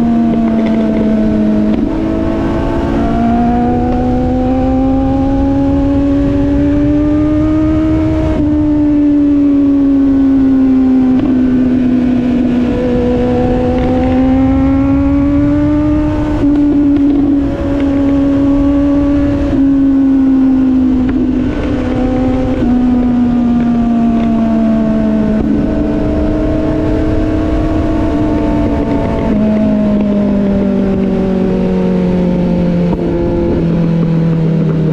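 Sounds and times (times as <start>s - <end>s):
motorcycle engine running: 0.0s - 34.9s
wind noise on microphone: 0.0s - 34.9s.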